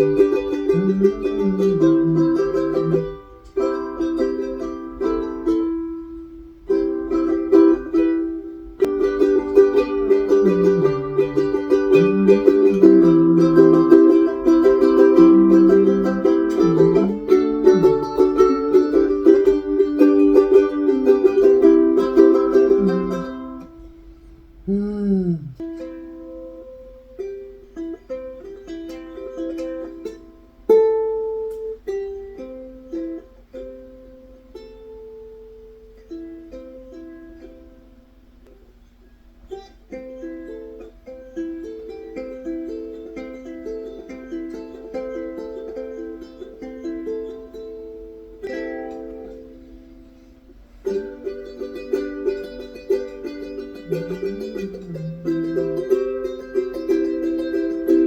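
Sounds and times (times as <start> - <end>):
ukulele strumming and picking: 0.0 - 24.6, 25.6 - 58.0.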